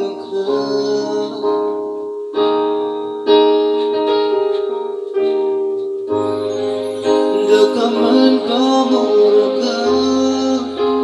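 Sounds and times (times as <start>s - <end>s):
electronic keyboard chords: 0.0s - 11.0s.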